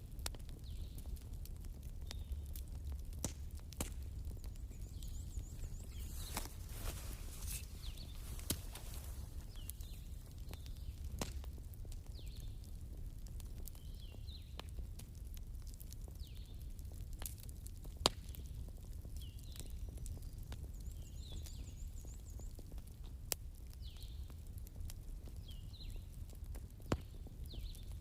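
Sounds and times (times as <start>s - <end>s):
bonfire crackling: 0.0s - 28.0s
fire pops: 0.0s - 28.0s.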